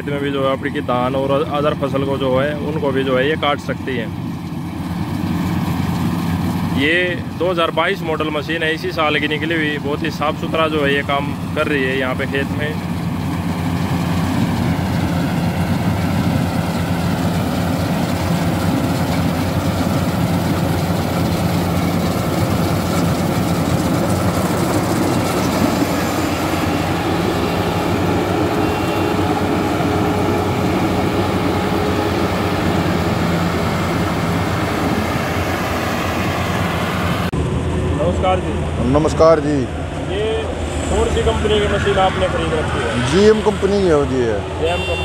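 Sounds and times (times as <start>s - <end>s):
combine harvester engine under load: 0.0s - 45.0s.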